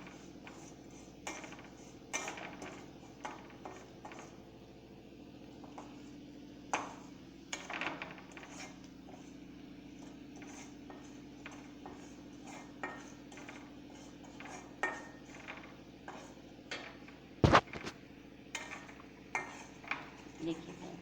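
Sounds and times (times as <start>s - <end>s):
metal utensil scraping in wok: 0.0s - 4.4s, 5.6s - 17.7s, 18.5s - 21.0s
steady low hum: 0.0s - 21.0s.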